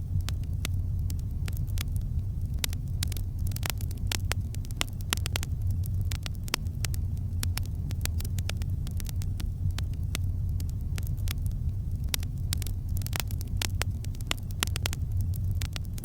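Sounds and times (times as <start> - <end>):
burning wood crackling and popping: 0.0 - 16.0
campfire rumble: 0.0 - 16.0.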